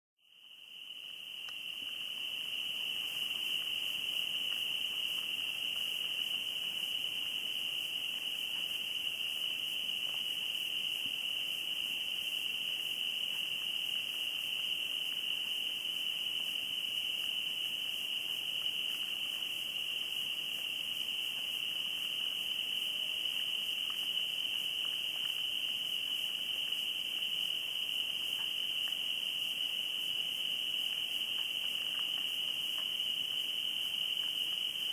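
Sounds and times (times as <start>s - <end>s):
crickets chirping: 0.2s - 34.9s.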